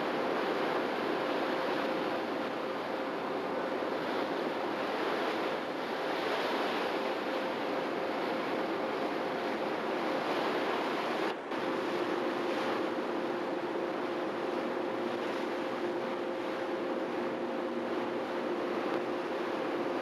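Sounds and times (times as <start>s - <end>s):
low engine hum: 0.0s - 20.0s
wind and water rushing: 0.0s - 20.0s.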